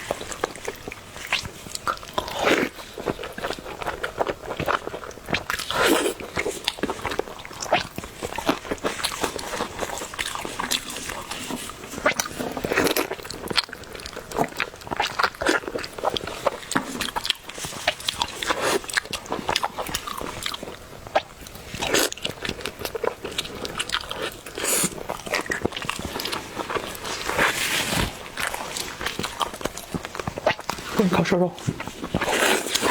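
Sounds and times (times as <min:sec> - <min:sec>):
person chewing food: 0:00.0 - 0:32.9.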